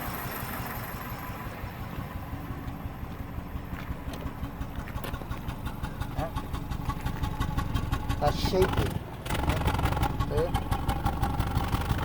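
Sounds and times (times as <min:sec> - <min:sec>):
car engine idling roughly: 0:00.0 - 0:12.0.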